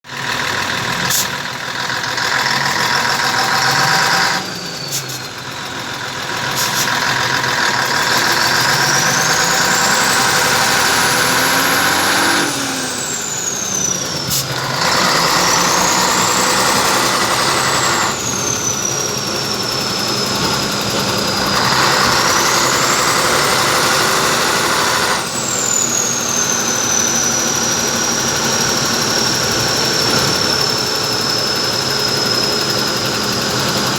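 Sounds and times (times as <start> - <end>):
diesel engine revving: 0.0 - 33.9
turbocharger whistling: 0.2 - 33.9.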